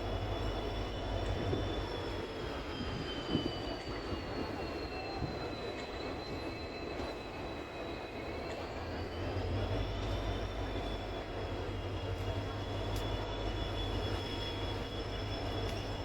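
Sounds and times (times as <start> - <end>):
high wheel squeal: 0.0 - 16.0
train rumbling on track: 0.0 - 16.0.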